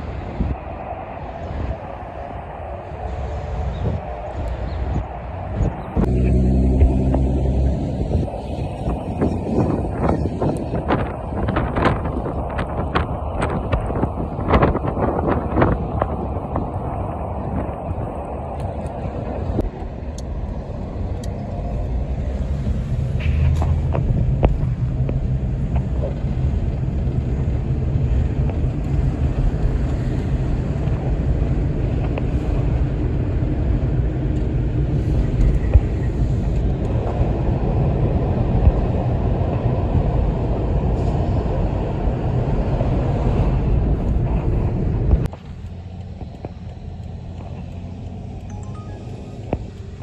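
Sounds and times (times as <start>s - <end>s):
highway traffic rumble: 0.0s - 50.0s.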